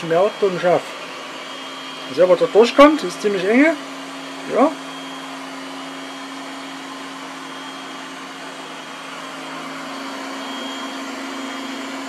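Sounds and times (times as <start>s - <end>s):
robot vacuum humming: 0.0s - 12.0s.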